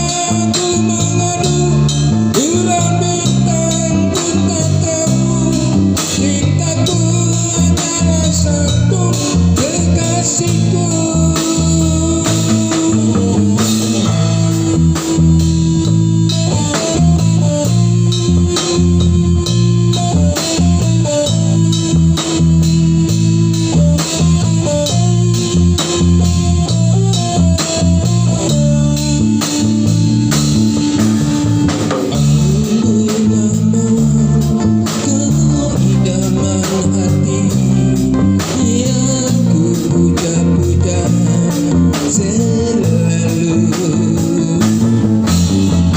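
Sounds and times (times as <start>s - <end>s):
rock band music through speakers: 0.0s - 45.9s.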